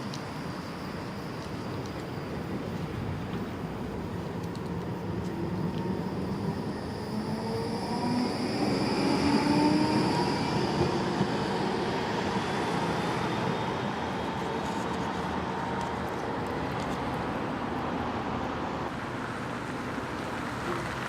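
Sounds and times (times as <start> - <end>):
tram passing: 0.0 - 21.0.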